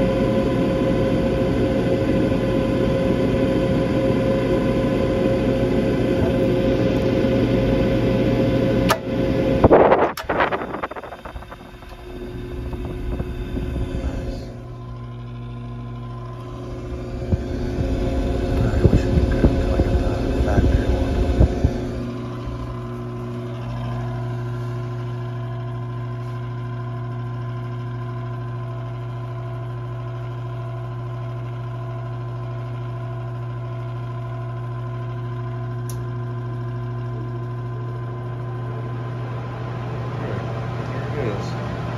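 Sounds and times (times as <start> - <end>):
gas furnace motor hum: 0.0 - 41.9.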